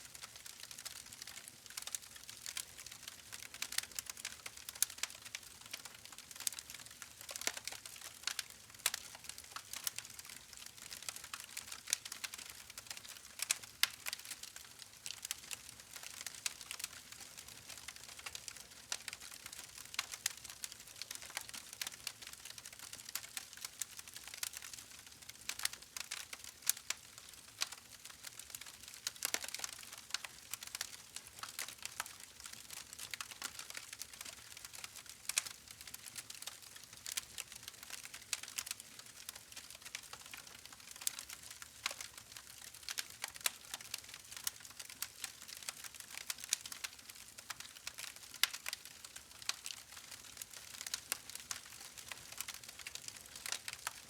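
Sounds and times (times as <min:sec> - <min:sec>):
soft steady hiss: 0:00.0 - 0:54.0.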